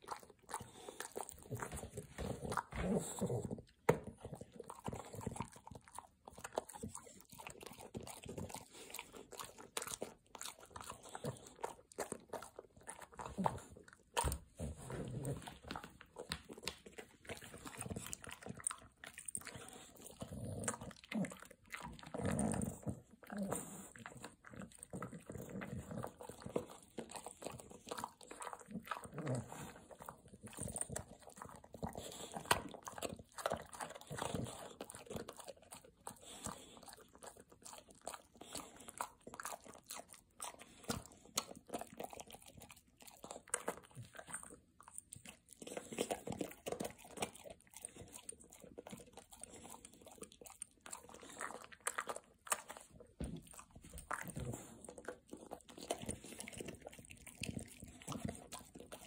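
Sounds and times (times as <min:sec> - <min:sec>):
dog crunching a cookie: 0:00.0 - 0:59.0.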